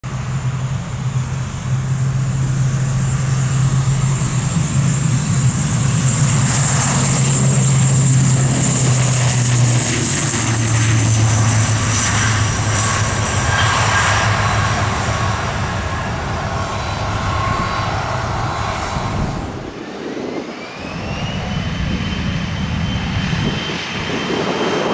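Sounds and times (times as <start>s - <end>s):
high turbine whine: 0.0s - 24.9s
turboprop engines droning: 0.0s - 24.9s.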